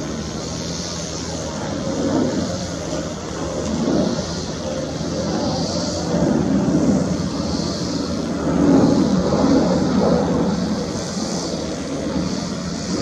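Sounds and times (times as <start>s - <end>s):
jet engines rumbling with hiss: 0.0s - 13.0s.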